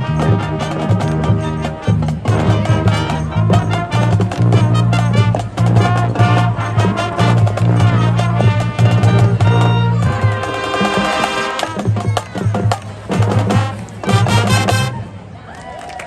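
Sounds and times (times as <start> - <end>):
drumline percussion hits: 0.0 - 15.1
marching band playing: 0.0 - 15.3.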